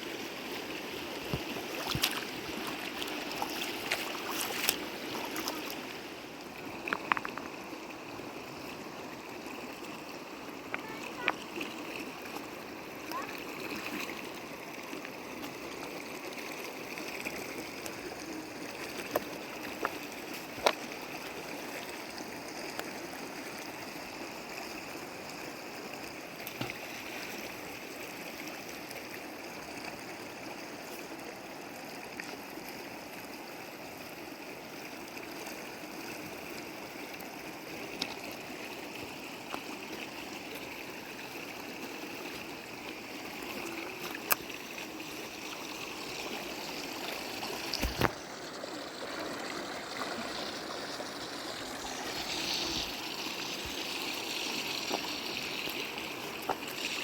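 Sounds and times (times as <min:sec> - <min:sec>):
river water rushing and gurgling: 0:00.0 - 0:57.0.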